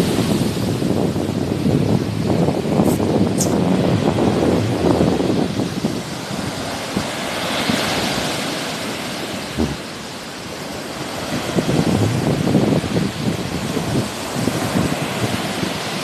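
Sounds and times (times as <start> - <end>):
sea waves washing ashore: 0.0 - 16.0
wind buffeting microphone: 0.0 - 16.0.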